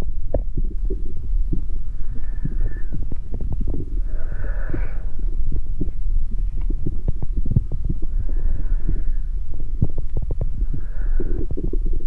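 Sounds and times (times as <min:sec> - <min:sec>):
deep rumble: 0:00.0 - 0:12.0
heartbeat thumps: 0:00.0 - 0:12.0.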